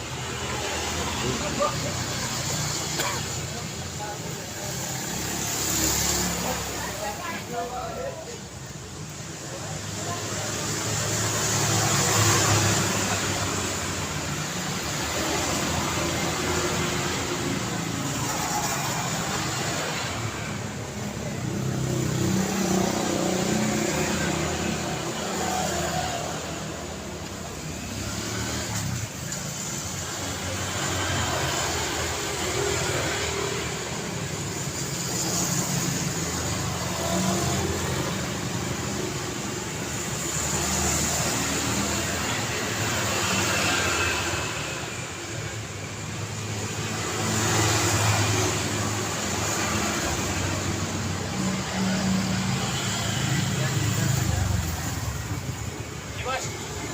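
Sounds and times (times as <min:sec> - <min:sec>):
road traffic passing: 0:00.0 - 0:56.9.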